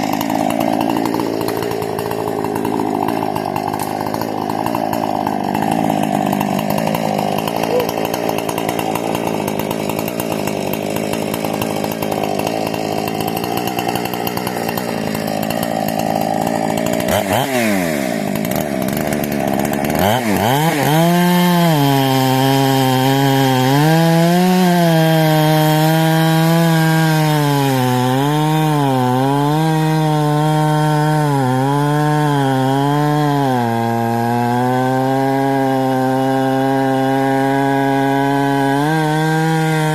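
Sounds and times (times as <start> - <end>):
chainsaw running hard: 0.0 - 39.9.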